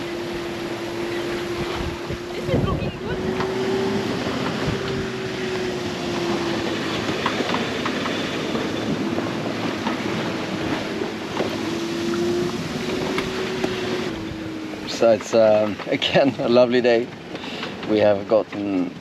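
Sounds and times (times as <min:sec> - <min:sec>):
steady wavering hum: 0:00.0 - 0:17.2
water and wind rushing: 0:00.0 - 0:19.0.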